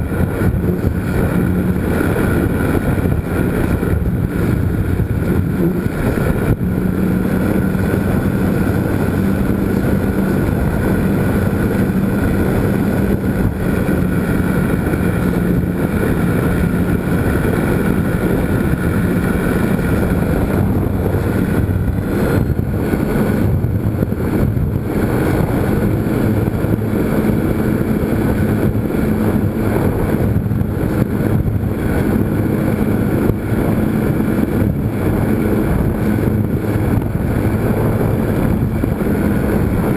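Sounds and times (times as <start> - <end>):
model airplane motor droning: 0.0 - 39.9
wind rushing over microphone: 0.0 - 39.9.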